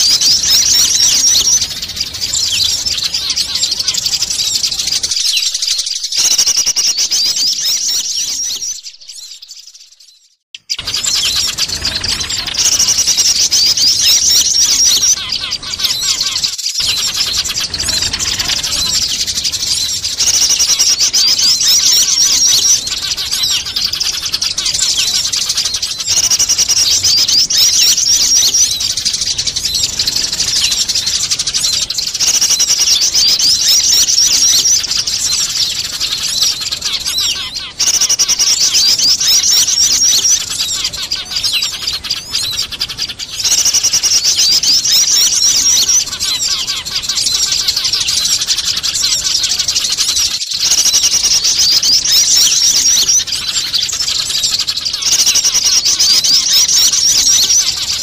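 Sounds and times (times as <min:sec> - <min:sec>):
small birds chirping: 0:00.0 - 0:58.0
sparrows chattering: 0:00.0 - 0:58.0.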